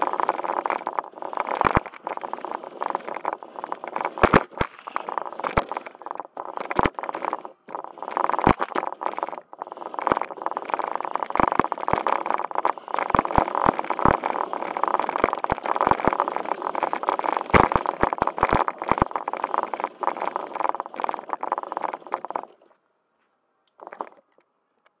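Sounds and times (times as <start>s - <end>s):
toy car motor whirring: 0.0s - 22.7s.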